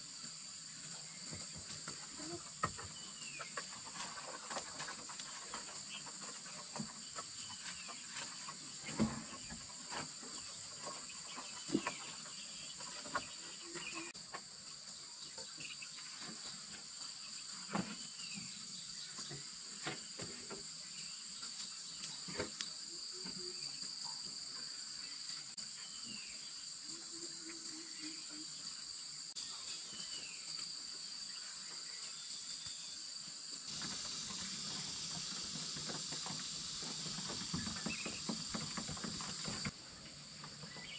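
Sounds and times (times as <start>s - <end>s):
insects calling: 0.0s - 40.9s.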